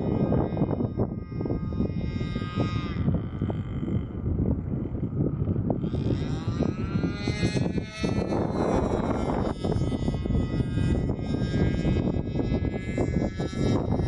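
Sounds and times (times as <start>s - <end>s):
model plane engine buzzing: 0.0s - 14.0s
wind rumble on microphone: 0.0s - 14.0s.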